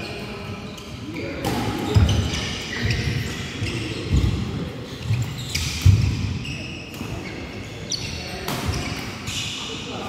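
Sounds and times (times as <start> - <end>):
shoe squeaks: 0.0 - 9.8.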